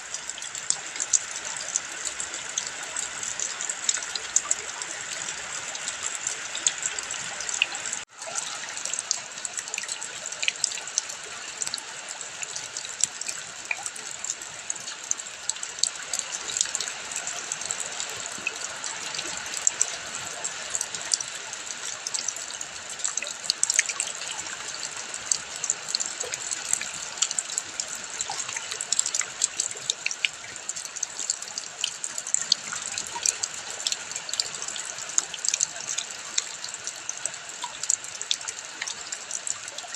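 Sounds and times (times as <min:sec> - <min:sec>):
rain and running water: 0:00.0 - 0:39.9
sharp drips and splashes: 0:00.0 - 0:39.9.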